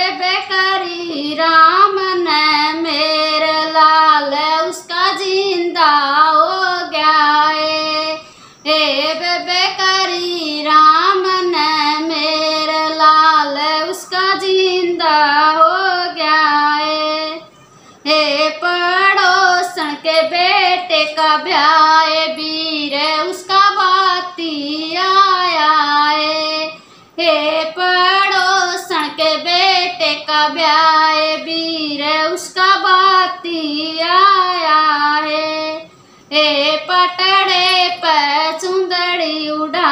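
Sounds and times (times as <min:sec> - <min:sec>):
woman singing folk song: 0:00.0 - 0:39.9.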